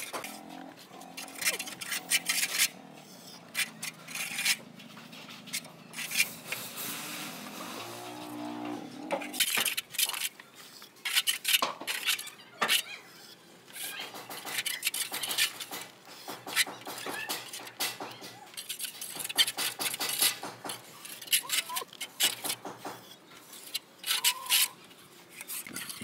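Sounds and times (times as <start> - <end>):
trowel scraping cement render: 0.0 - 26.0.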